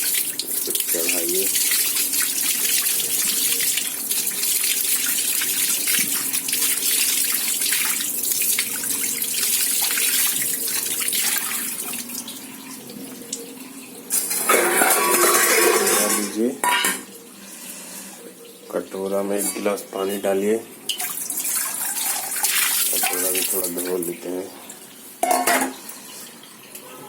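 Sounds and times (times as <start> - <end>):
tap water running: 0.0 - 27.0.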